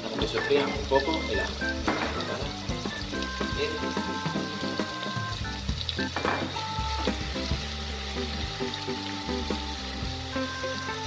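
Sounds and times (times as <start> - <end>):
background music with held notes: 0.0 - 11.0
garlic and onion sizzling in oil: 0.0 - 11.0.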